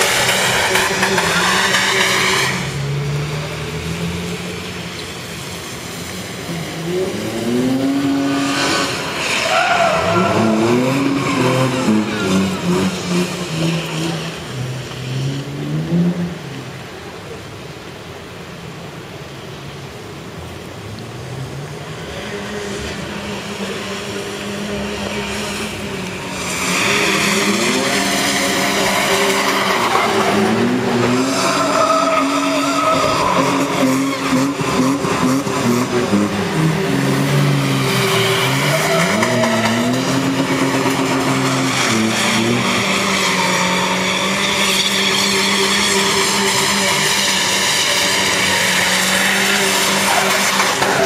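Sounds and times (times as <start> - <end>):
engines revving hard: 0.0 - 16.5, 21.3 - 51.0
tyres skidding: 0.0 - 51.0.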